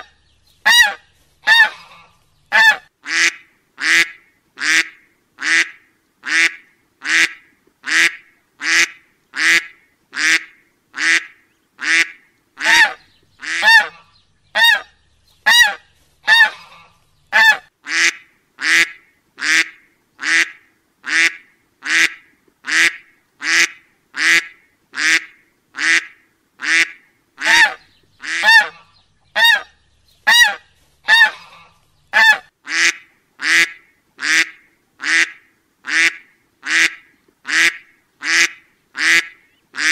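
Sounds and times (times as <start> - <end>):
duck quacking: 0.0 - 39.9.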